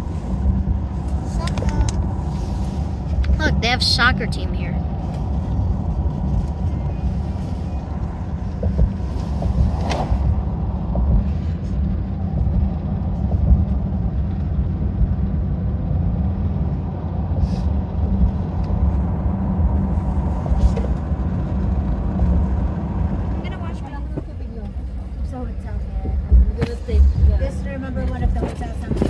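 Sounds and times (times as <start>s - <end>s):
car driving rumble from inside: 0.0s - 29.0s.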